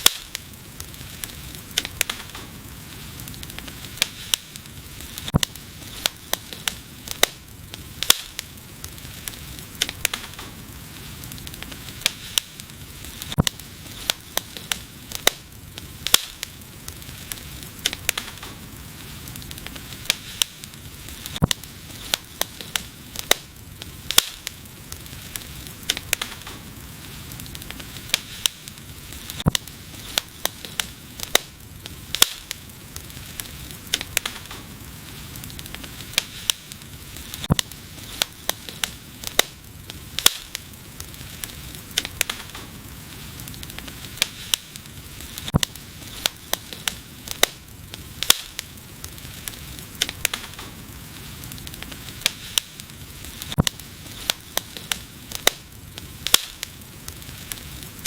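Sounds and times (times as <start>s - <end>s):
fire hissing: 0.0s - 58.0s
wood fire crackling and popping: 0.0s - 58.0s.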